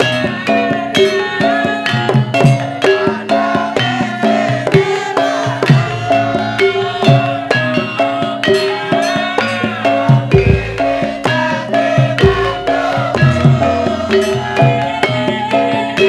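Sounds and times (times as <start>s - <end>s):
hand drums beating: 0.0s - 16.0s
ringing metallophone tones: 0.0s - 16.0s.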